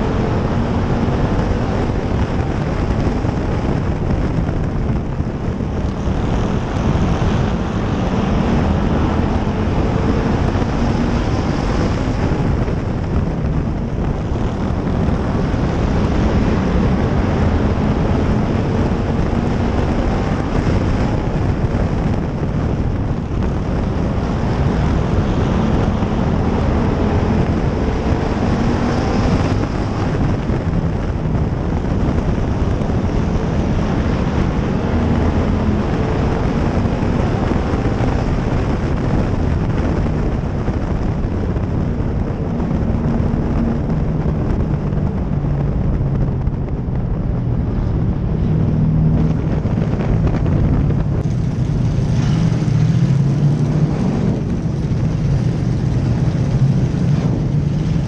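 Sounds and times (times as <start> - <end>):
race car engine: 0.0 - 58.0
wind on microphone: 0.0 - 58.0.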